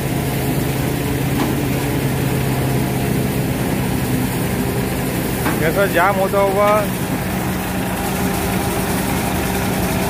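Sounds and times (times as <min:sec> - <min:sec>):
crop thresher droning: 0:00.0 - 0:10.0.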